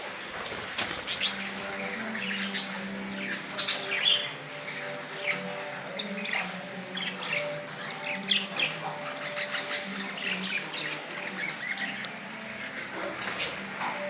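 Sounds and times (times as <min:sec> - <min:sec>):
budgerigars chirping: 0:00.4 - 0:14.0.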